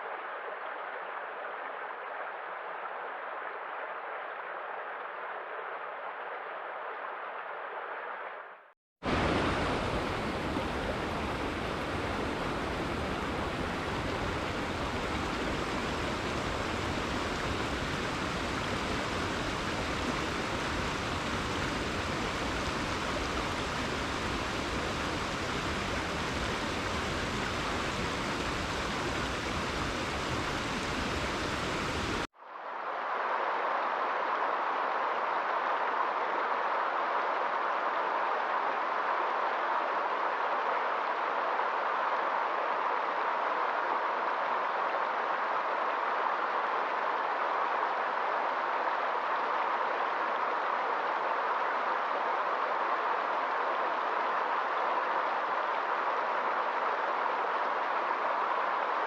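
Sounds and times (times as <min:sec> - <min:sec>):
rushing water: 0:09.0 - 0:59.0.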